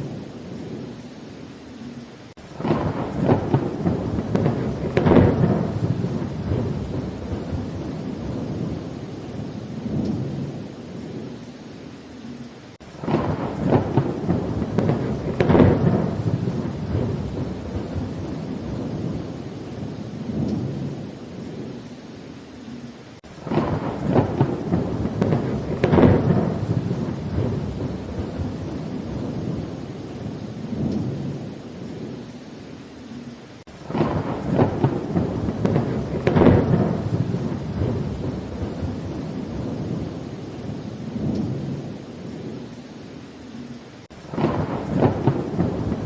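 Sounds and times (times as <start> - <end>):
steady rain: 0.0 - 46.0
thunder rumbling: 2.4 - 11.5, 12.2 - 22.1, 22.7 - 32.4, 33.1 - 42.8, 43.6 - 46.0.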